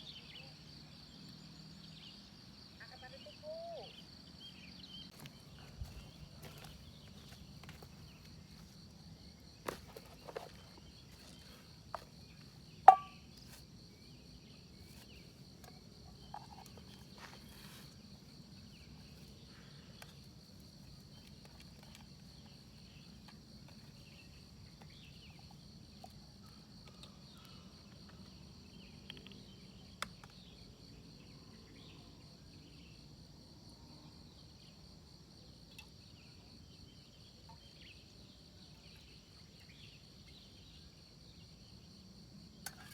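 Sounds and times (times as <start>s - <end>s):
crickets chirring: 0.0s - 42.9s.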